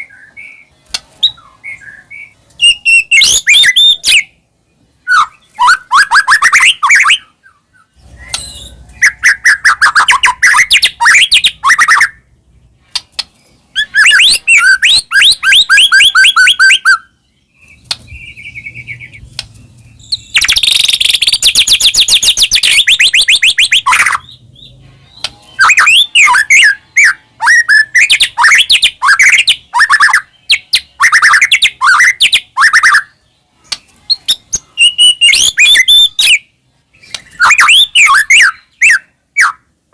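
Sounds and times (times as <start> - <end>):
bird singing whistled trills: 0.0 - 4.4, 5.0 - 12.3, 13.7 - 33.3, 34.1 - 39.7.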